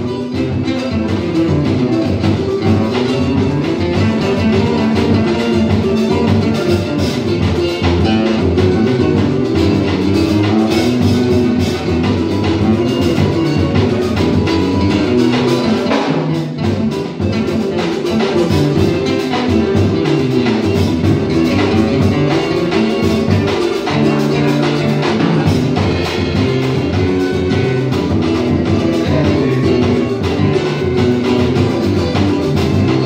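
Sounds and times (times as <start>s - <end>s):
acoustic guitar: 0.0s - 33.0s
drum kit: 0.0s - 33.0s
strummed small guitar: 0.0s - 33.0s.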